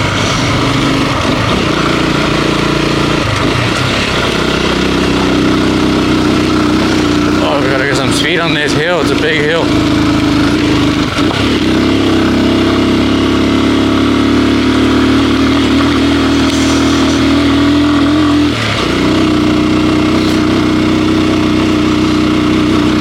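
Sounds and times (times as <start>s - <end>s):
vehicle engine pulling uphill: 0.0s - 23.0s.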